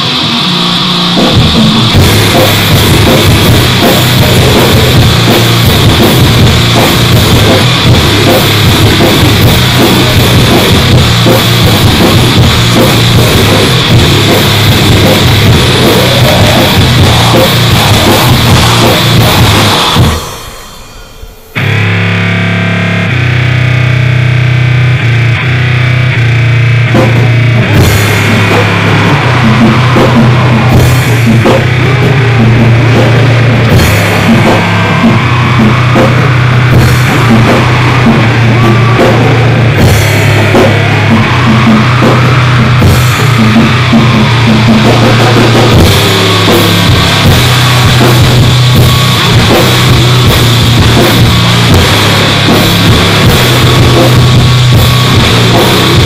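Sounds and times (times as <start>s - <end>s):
distorted guitar: 0.0s - 56.0s
drum kit and cymbal hits: 0.0s - 56.0s
heavy low bass drone: 0.0s - 56.0s
saturated wall of noise: 0.0s - 56.0s.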